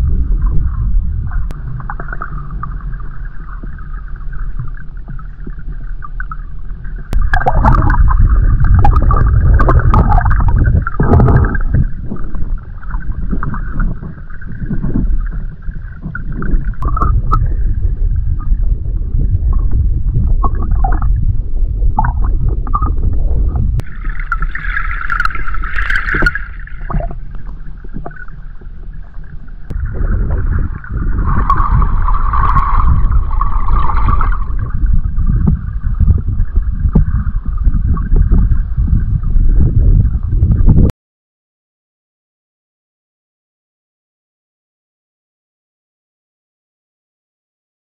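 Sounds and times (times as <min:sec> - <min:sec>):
underwater rumble of moving water: 0:00.0 - 0:40.9.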